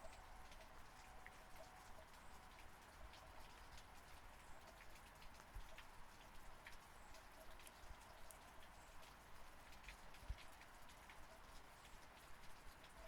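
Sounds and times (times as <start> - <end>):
faint steady rain: 0.0 - 13.0
raindrops ticking close by: 0.0 - 13.0.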